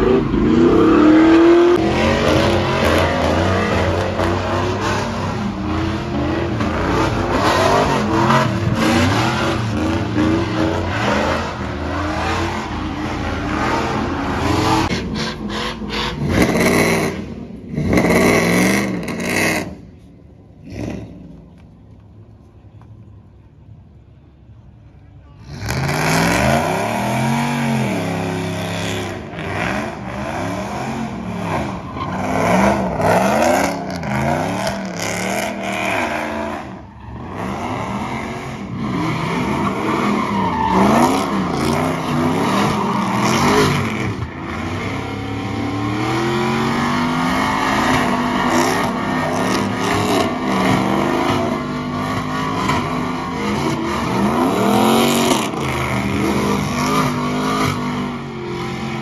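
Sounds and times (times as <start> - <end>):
truck engine revving: 0.0 - 19.8, 25.5 - 59.0.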